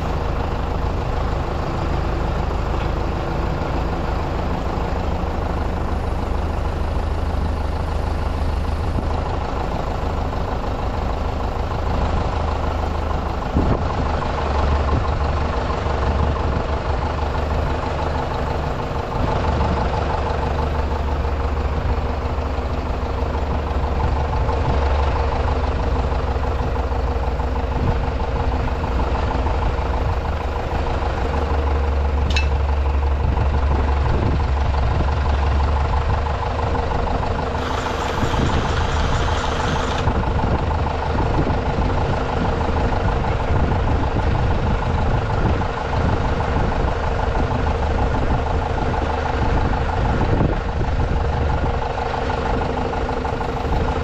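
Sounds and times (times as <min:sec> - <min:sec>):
heavy vehicle engine running: 0:00.0 - 0:54.0.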